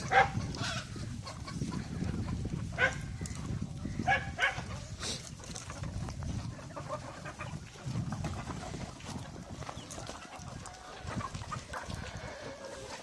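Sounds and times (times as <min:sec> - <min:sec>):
chickens squawking and clucking: 0:00.0 - 0:13.0.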